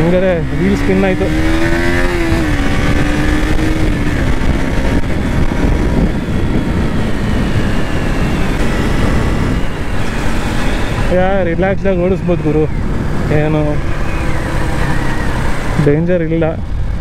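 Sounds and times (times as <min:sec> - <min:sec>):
motorcycle engine pulling steadily: 0:00.0 - 0:17.0
wind buffeting microphone: 0:00.0 - 0:17.0.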